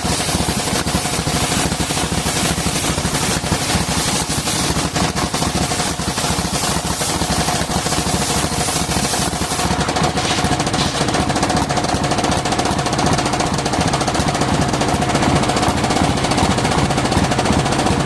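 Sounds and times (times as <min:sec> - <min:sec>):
engine knocking steadily: 0:00.0 - 0:18.0.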